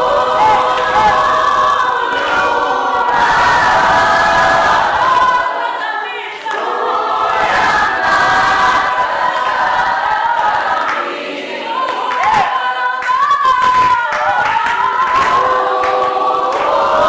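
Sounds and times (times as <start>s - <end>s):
small choir singing in harmony: 0.0s - 17.0s.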